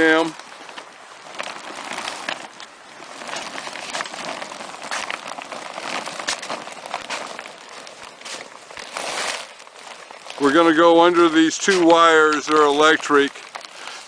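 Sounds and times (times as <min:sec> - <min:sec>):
plastic tube crinkling and rustling: 0:00.0 - 0:14.0.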